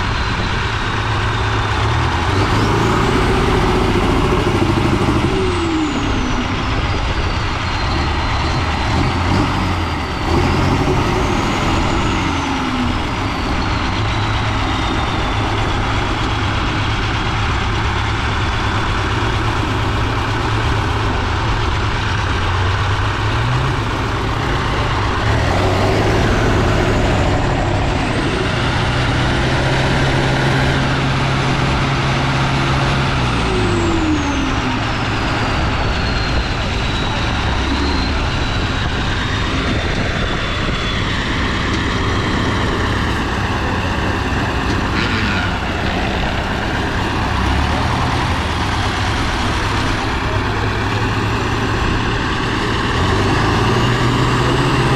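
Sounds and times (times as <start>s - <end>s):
diesel truck engine labouring: 0.0s - 54.9s
high whine: 0.0s - 54.9s.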